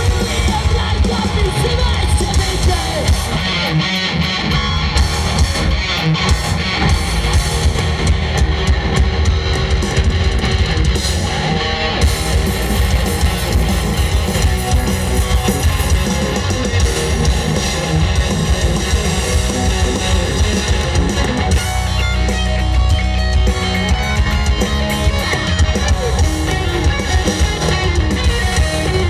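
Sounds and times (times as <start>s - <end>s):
drum kit: 0.0s - 29.0s
electric guitar: 0.0s - 29.0s
rock band playing live: 0.0s - 29.0s.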